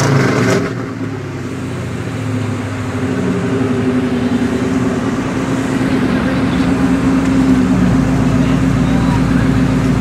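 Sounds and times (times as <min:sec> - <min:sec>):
engine idling with rumbly exhaust: 0:00.0 - 0:10.0.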